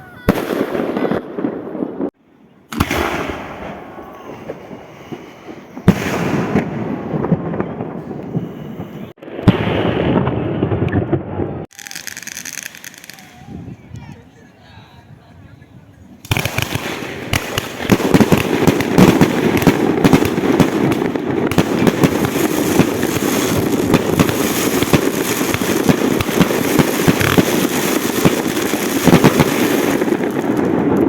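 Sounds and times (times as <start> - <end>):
fireworks crackling and popping: 0.2 - 14.2, 16.2 - 31.0.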